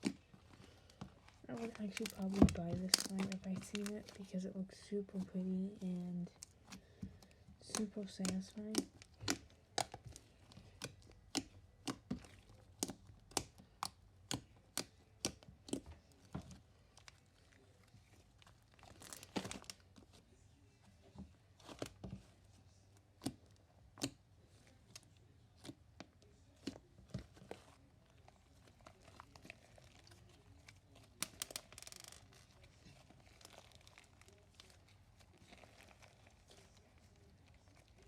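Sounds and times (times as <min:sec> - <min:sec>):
slime crackling: 0:00.0 - 0:20.3, 0:21.5 - 0:38.0.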